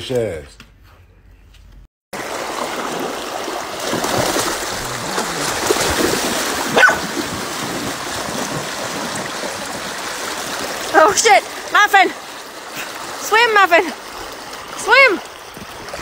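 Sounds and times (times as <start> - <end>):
river water rushing: 2.2 - 16.0.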